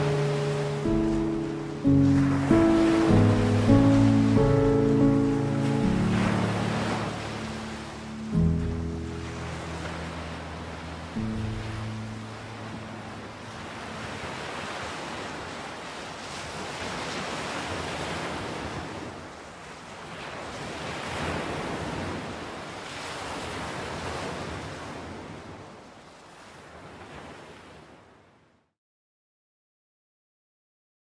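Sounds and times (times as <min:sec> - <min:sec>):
sea waves washing in: 0:00.0 - 0:28.0.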